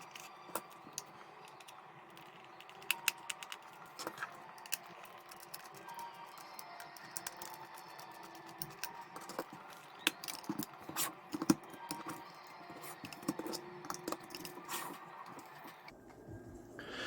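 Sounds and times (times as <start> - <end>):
plastic calculator being handled: 0.0 - 15.8.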